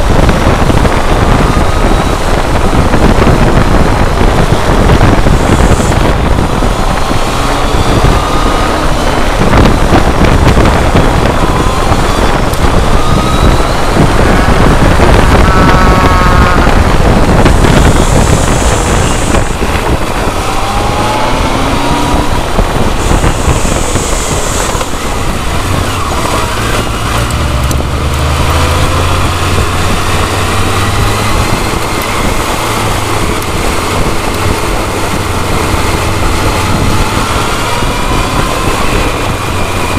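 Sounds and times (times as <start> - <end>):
motorcycle engine accelerating: 0.0 - 39.9
wind rush over microphone: 0.0 - 39.9.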